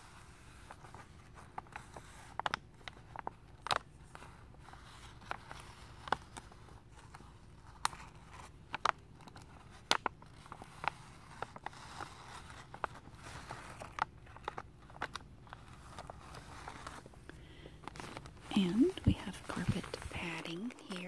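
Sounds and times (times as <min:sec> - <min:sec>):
plastic sheeting crinkling: 0:00.0 - 0:21.0.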